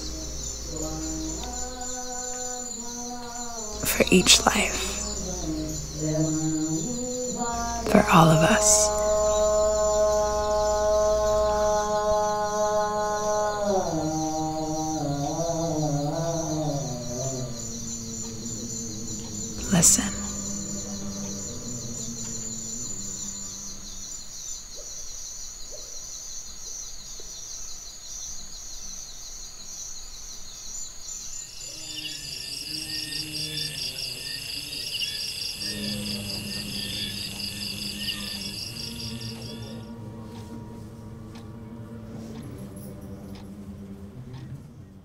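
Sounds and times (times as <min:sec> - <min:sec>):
low humming drone: 0:00.0 - 0:24.4, 0:31.6 - 0:45.0
second different insect trill: 0:00.0 - 0:41.4
crickets and insects trilling: 0:00.0 - 0:44.9.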